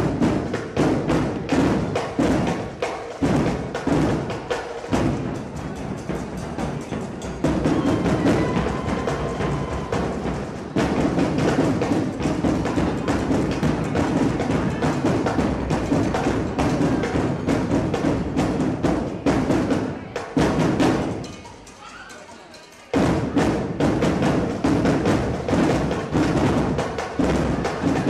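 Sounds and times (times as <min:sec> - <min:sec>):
percussion-heavy drum music: 0:00.0 - 0:28.0.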